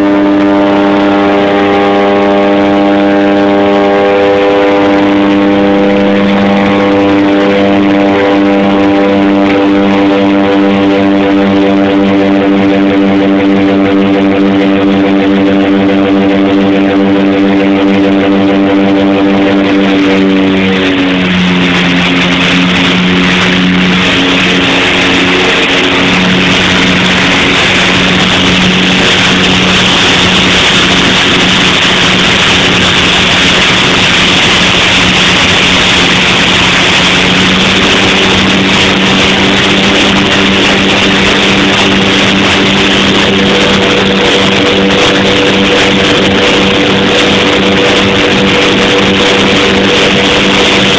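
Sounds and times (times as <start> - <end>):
turboprop engines droning: 0.0 - 50.9
wind rushing past: 2.5 - 50.9.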